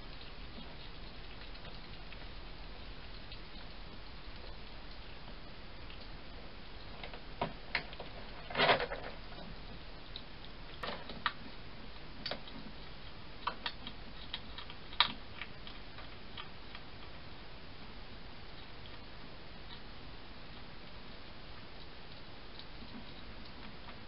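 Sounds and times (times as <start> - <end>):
hedgehog clicks and ticks: 0.0 - 17.2, 20.5 - 24.0.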